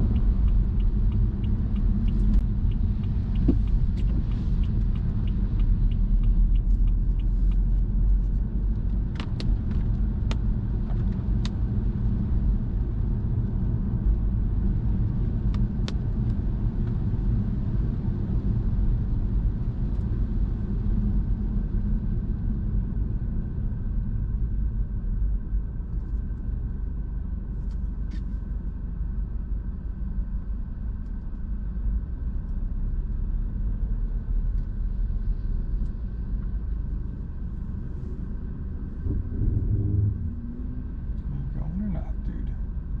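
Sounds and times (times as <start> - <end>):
engine and tyre rumble: 0.0 - 43.0.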